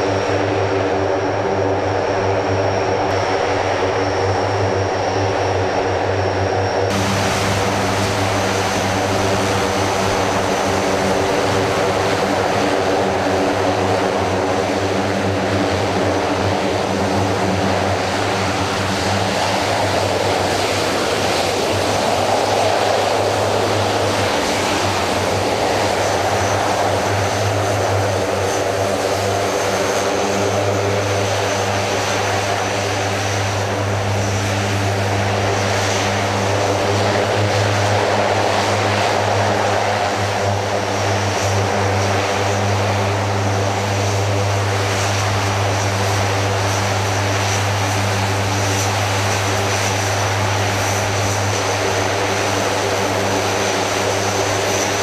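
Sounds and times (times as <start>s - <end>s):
high turbine whine: 0.0s - 55.0s
turboprop engines droning: 0.0s - 55.0s.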